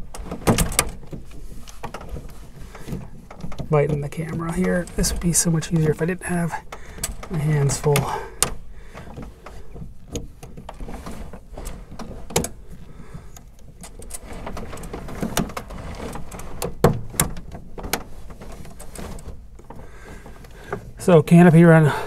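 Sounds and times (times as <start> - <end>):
sliding canopy clicking and rattling: 0.0 - 22.0.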